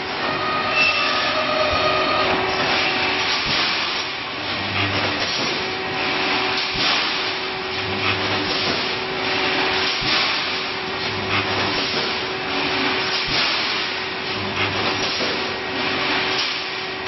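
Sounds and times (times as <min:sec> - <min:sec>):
welding machine running: 0:00.0 - 0:17.0.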